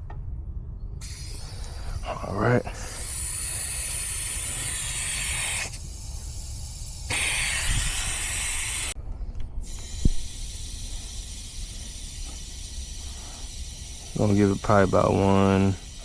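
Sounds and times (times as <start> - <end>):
gas hissing through hoses: 1.0 - 9.0, 9.6 - 16.0.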